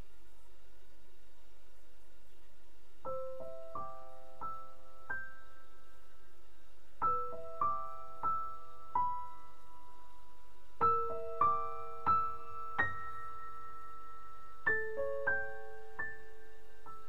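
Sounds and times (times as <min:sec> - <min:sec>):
slow solo piano: 0:03.0 - 0:17.0.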